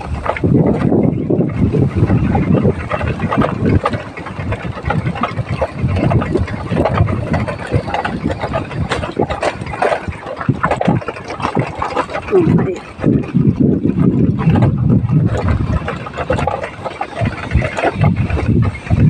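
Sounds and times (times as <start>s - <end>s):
knocks and rattles on gravel: 0.0s - 19.0s
vehicle engine running: 0.0s - 19.0s.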